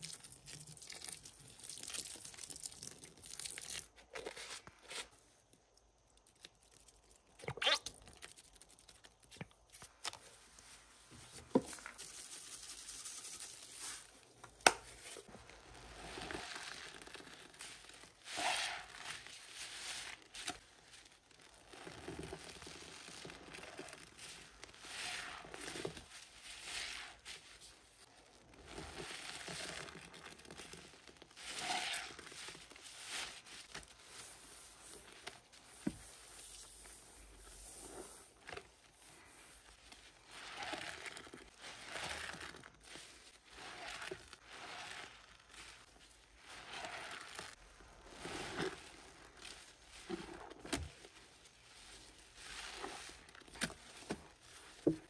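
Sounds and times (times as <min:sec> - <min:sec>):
wet sponge squelching: 0:06.8 - 0:12.0, 0:14.9 - 0:55.0.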